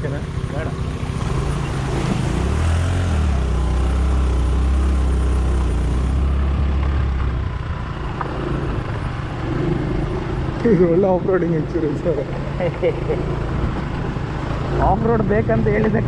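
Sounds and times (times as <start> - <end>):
vehicle engine pulling hard: 0.0 - 16.0.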